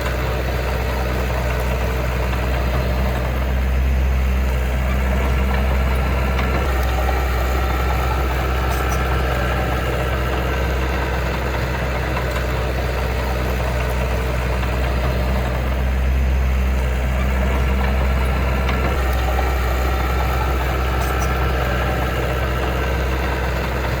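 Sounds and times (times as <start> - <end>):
heavy diesel engine humming: 0.0 - 24.0.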